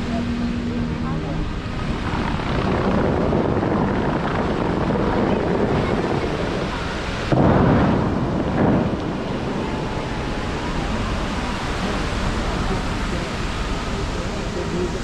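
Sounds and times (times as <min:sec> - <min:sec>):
fountain water rushing: 0:00.0 - 0:15.0
water whooshing surges: 0:00.0 - 0:15.0.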